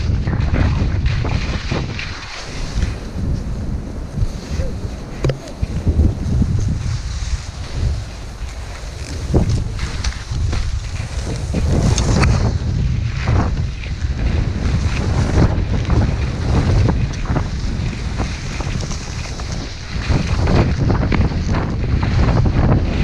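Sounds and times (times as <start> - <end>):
skis scraping on snow: 0.0 - 23.0
wind buffeting microphone: 0.0 - 23.0.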